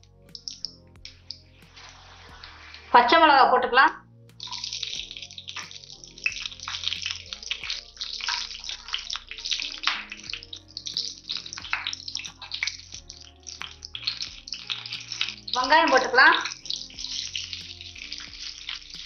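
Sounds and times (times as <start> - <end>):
oil sizzling and crackling: 0.0 - 3.2, 4.3 - 19.0.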